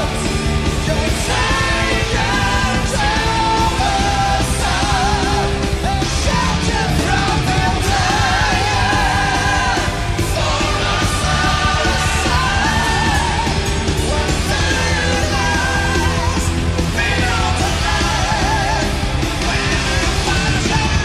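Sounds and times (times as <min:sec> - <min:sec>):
distorted guitars: 0:00.0 - 0:21.0
drums: 0:00.0 - 0:21.0.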